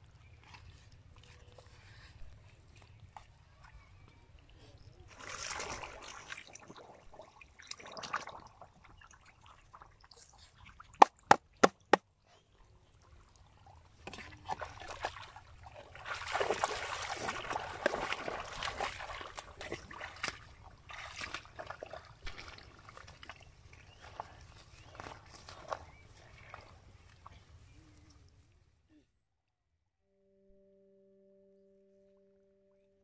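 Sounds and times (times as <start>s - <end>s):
feet wading through water: 0.0s - 11.0s, 12.4s - 28.4s.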